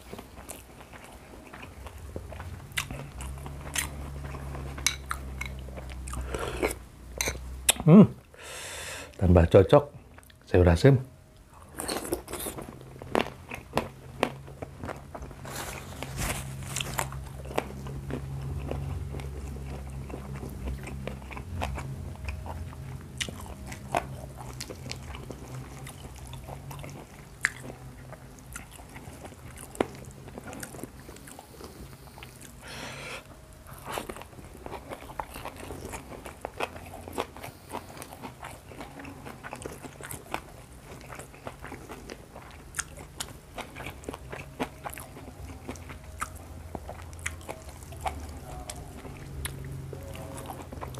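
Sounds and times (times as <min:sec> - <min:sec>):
crunchy chewing: 0:00.0 - 0:07.8, 0:11.4 - 0:50.9.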